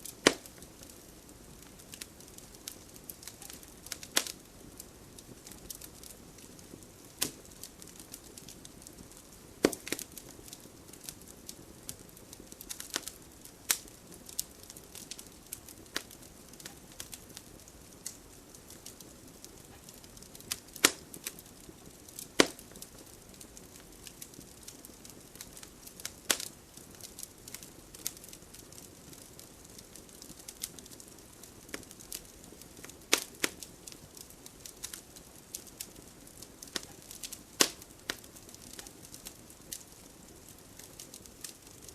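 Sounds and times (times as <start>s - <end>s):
fire pops and snaps: 0.0s - 41.9s
low steady hiss: 0.0s - 41.9s
wood fire crackling: 0.0s - 41.9s.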